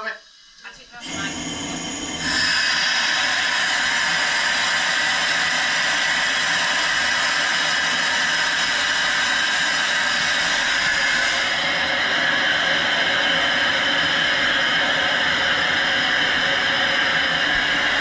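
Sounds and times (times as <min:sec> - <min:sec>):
loud rush of venting air: 0:01.0 - 0:18.0.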